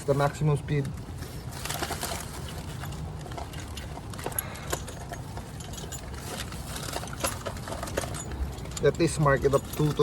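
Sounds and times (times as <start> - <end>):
metal parts and tools clinking: 0.0 - 10.0.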